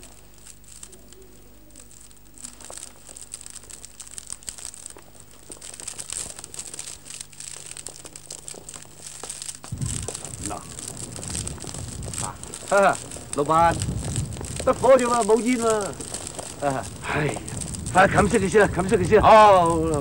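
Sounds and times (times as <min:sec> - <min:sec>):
burning straw crackling: 0:00.0 - 0:20.0.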